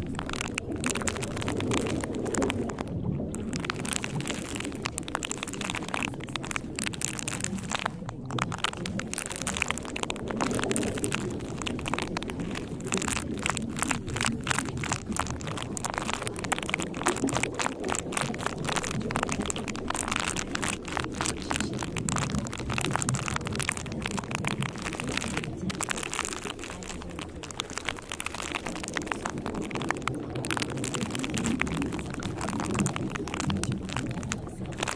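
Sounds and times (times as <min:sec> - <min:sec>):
crackling rain-like noise: 0:00.0 - 0:34.9.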